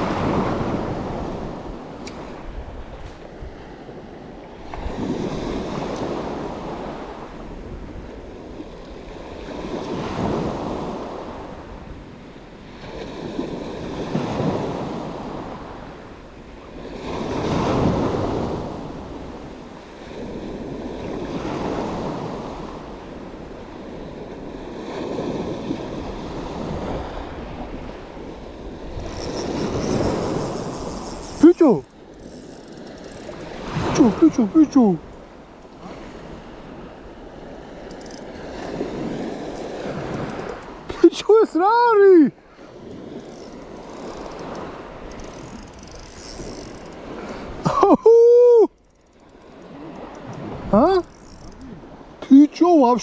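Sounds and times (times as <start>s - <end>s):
sea waves washing in: 0.0s - 47.7s, 48.3s - 53.0s.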